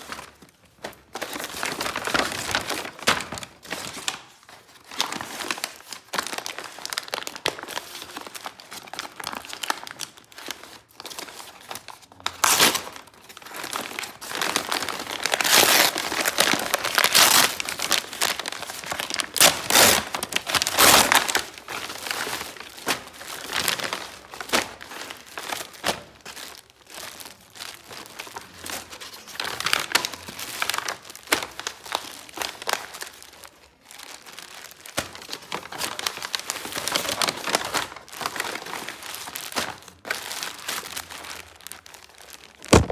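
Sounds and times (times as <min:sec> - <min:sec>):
paper and plastic crinkling: 0:00.0 - 0:42.9.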